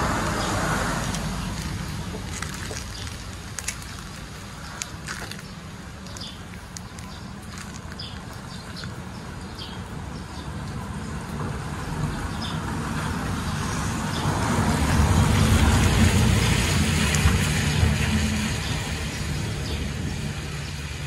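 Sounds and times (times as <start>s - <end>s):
vehicle passing by: 0.0s - 5.5s, 9.6s - 21.0s.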